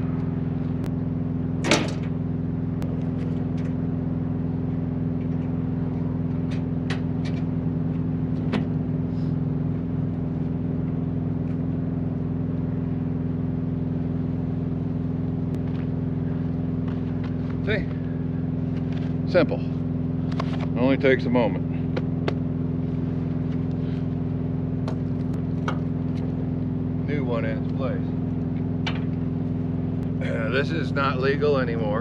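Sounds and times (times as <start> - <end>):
truck diesel engine idling: 0.0 - 32.0.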